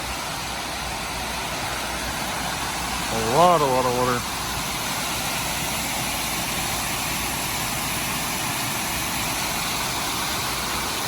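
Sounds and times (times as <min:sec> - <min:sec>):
water rushing over spillway: 0:00.0 - 0:11.0.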